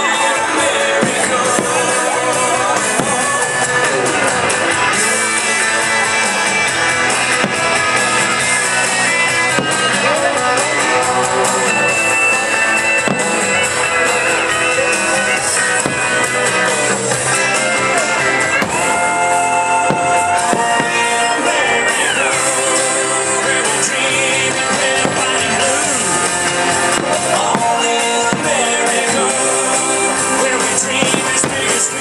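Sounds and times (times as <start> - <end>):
loud music with guitar and drums: 0.0 - 32.0.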